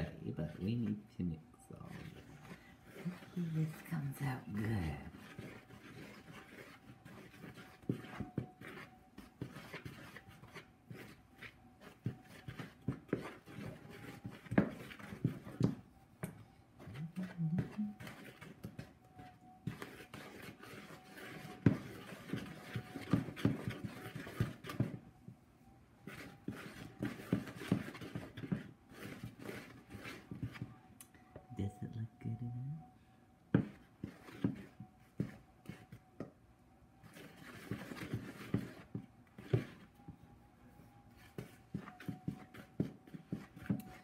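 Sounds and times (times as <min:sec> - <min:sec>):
spoon stirring batter in plastic bowl: 0:00.0 - 0:25.4, 0:26.0 - 0:31.5, 0:33.4 - 0:40.3, 0:41.0 - 0:44.0.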